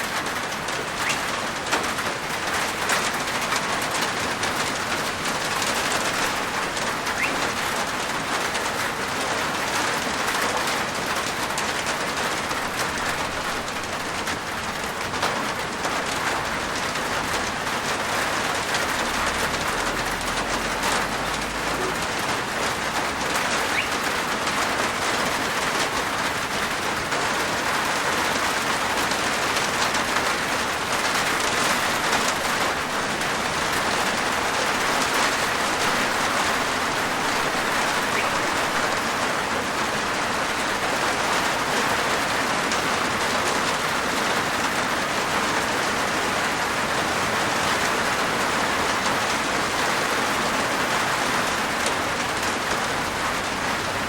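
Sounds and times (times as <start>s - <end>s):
rain on a rooftop: 0.0s - 54.0s.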